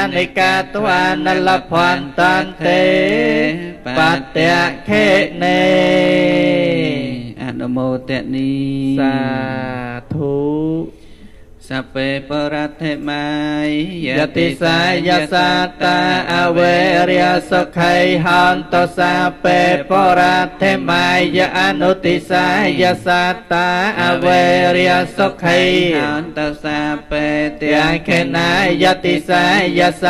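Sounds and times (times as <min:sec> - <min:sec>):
monks chanting into microphones: 0:00.0 - 0:10.9, 0:11.6 - 0:30.0.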